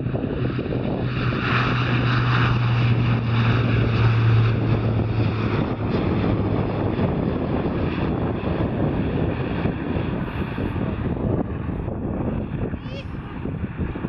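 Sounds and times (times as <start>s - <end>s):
low propeller drone: 0.0s - 14.0s
rushing jet roar: 0.0s - 14.0s.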